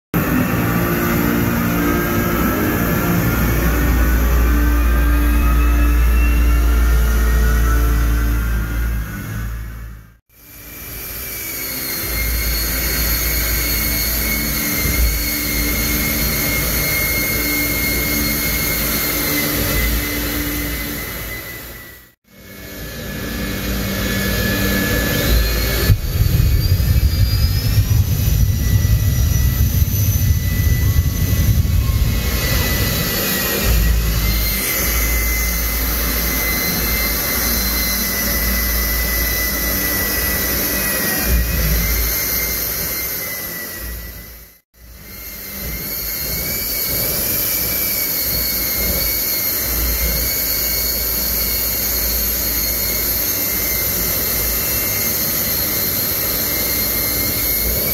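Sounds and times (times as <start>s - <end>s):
turbine engine whine and rush: 0.1s - 57.9s.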